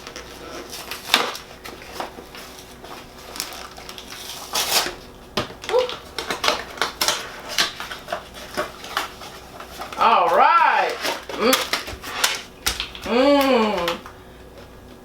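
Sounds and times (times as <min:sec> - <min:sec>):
wrapped food rustling: 0:00.0 - 0:14.2.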